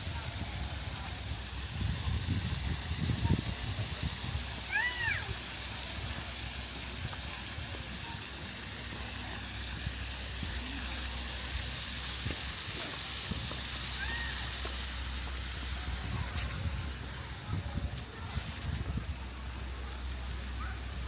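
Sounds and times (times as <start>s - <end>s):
faint distant voices: 0.0s - 21.0s.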